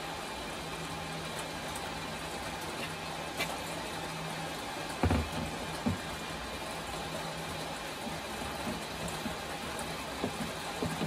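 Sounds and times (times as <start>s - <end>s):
background hiss and hum: 0.0s - 11.0s.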